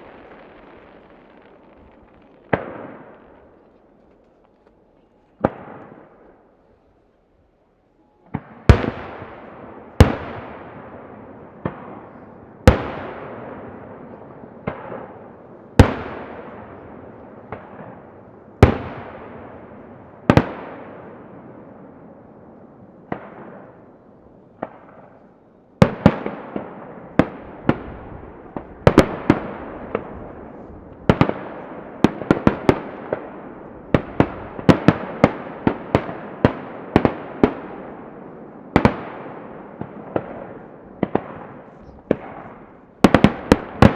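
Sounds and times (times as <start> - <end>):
firework bangs with echo: 0.0 - 4.7, 5.4 - 6.4, 8.3 - 22.1, 23.0 - 23.9, 25.8 - 43.9.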